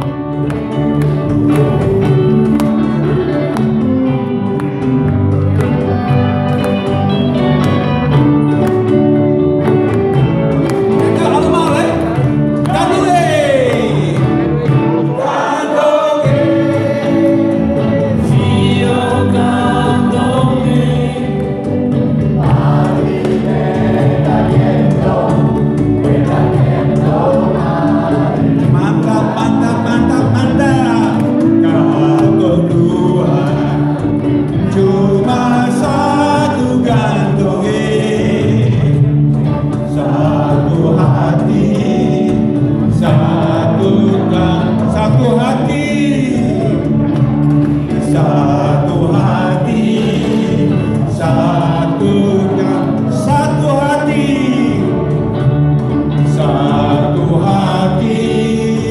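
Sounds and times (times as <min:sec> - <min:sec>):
live band playing dance music: 0:00.0 - 0:58.9
man singing: 0:10.9 - 0:58.9.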